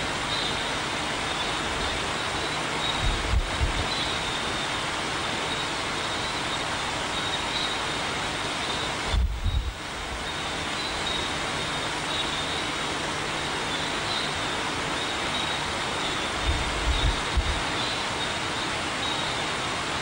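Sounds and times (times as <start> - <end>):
faint high steady tone: 0.0 - 19.8
microphone hiss: 0.0 - 20.0.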